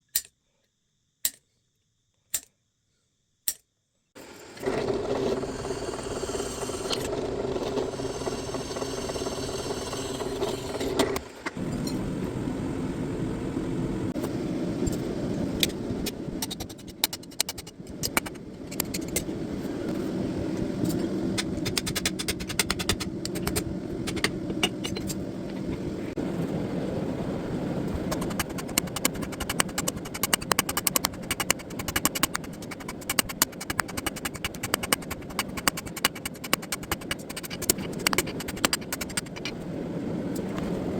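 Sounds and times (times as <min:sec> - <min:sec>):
steady forge noise: 0:04.2 - 0:40.9.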